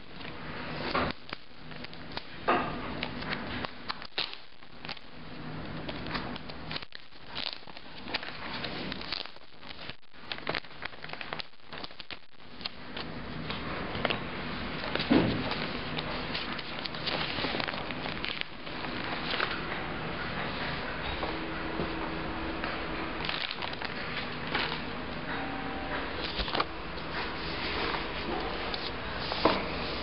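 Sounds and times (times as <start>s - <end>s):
packaging crackles and rustles: 0.0s - 19.7s, 23.2s - 24.9s, 26.2s - 30.0s.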